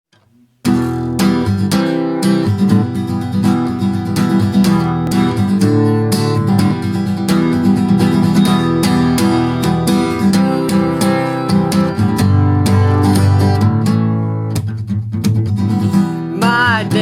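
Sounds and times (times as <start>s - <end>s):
acoustic guitar strumming: 0.1s - 17.0s.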